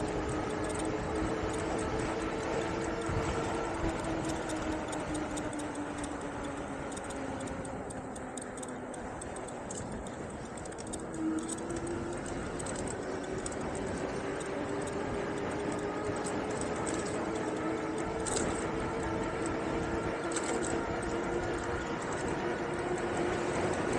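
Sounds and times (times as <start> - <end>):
electric bike motor whining: 0.0 - 23.9
light ticking: 0.0 - 23.9
wind: 0.0 - 23.9.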